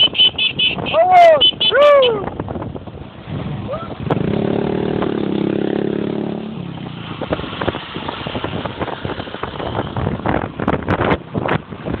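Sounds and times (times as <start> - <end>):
motor vehicle running: 1.8 - 12.0.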